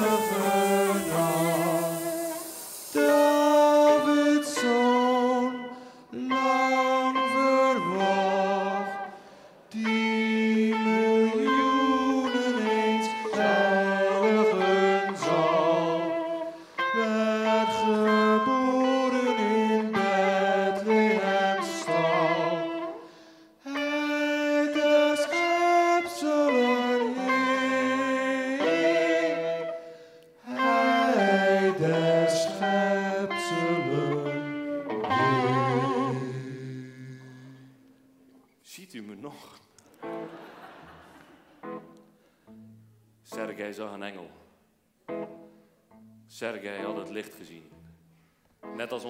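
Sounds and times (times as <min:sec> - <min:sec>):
electric guitar solo: 0:00.0 - 0:38.5, 0:39.9 - 0:43.1, 0:45.0 - 0:49.0.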